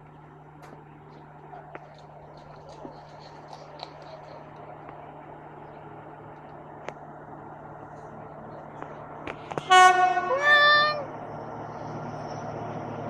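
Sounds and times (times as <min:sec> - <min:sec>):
diesel train hum: 0:00.0 - 0:13.0.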